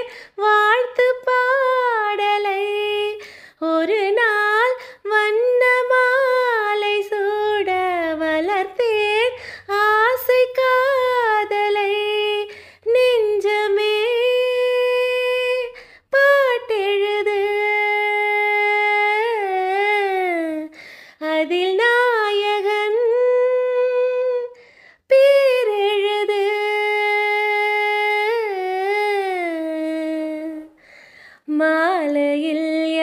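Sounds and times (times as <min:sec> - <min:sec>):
woman singing slow melody: 0:00.0 - 0:30.8.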